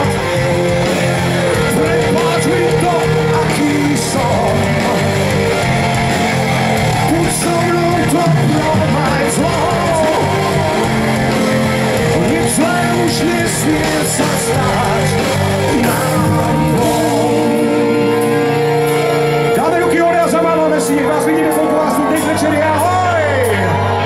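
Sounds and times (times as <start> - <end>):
person singing: 0.0 - 23.9
live rock band playing: 0.0 - 24.0.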